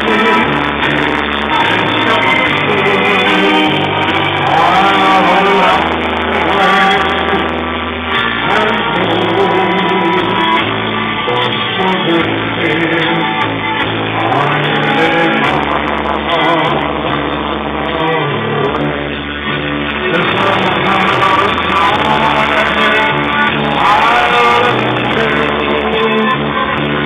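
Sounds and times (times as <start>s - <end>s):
backing music with bass line: 0.0s - 27.0s
man singing into microphone: 0.0s - 27.0s.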